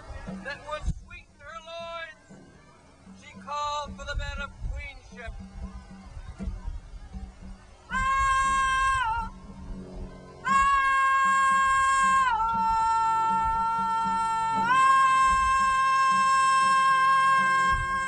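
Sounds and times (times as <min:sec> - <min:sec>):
low hum: 0:02.2 - 0:18.0.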